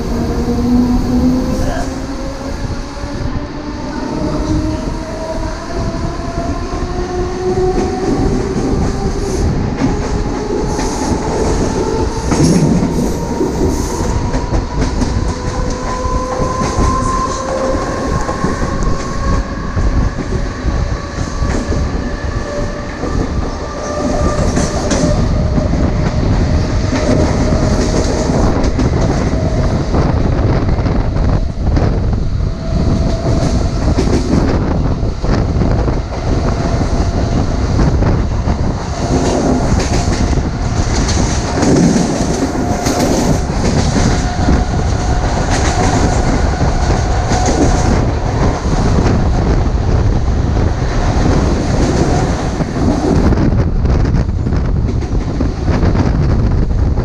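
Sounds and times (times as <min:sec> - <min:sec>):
rail joints clacking: 0:00.0 - 0:57.0
wheels rumbling on rail: 0:00.0 - 0:57.0.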